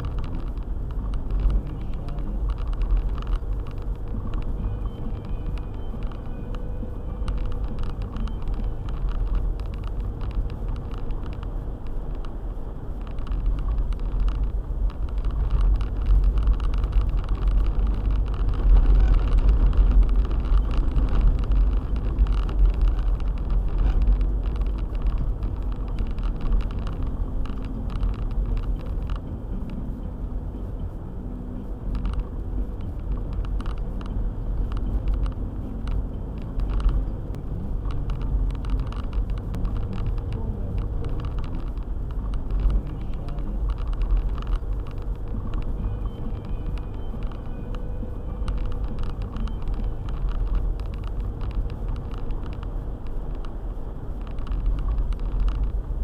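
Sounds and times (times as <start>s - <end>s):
small ticks: 0.0s - 30.0s, 31.6s - 56.0s
car engine and tyres rumbling: 0.0s - 56.0s.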